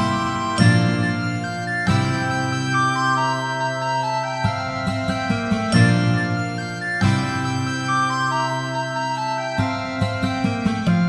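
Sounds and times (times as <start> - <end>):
instrumental keyboard music: 0.0 - 11.0.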